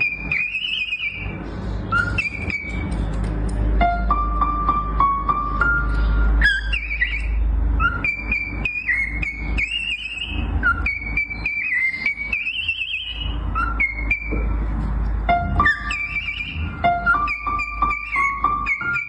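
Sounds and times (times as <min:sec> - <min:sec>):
cockatiel whistling: 0:00.0 - 0:03.0, 0:04.0 - 0:14.7, 0:15.3 - 0:19.0.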